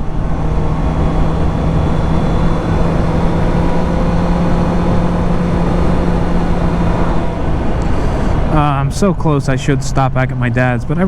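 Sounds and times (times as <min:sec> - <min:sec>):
motorcycle engine cruising: 0:00.0 - 0:11.0
wind and road rumble: 0:00.0 - 0:11.0.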